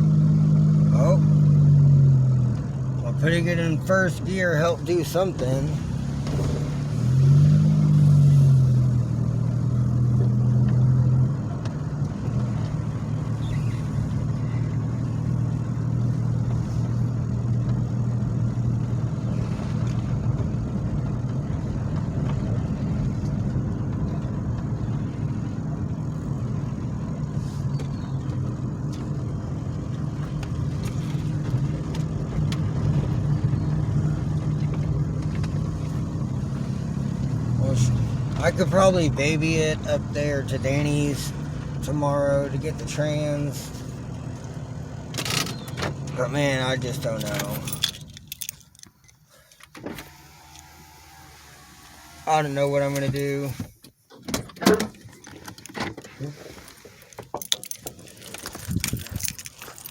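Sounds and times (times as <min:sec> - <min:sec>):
car engine revving: 0:00.0 - 0:48.4, 0:49.9 - 0:53.7.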